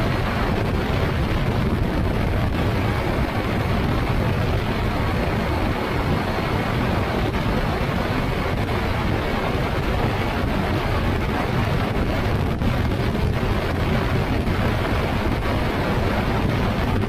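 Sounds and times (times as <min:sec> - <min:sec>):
engine and propeller drone: 0:00.0 - 0:17.0
wind buffeting microphone: 0:00.0 - 0:17.0.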